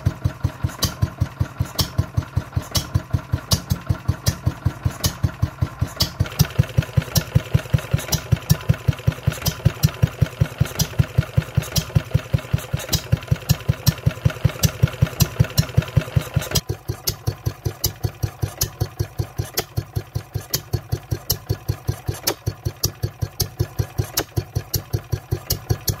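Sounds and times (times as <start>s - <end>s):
engine clatter: 0.0s - 26.0s
stationary engine idling: 0.0s - 26.0s.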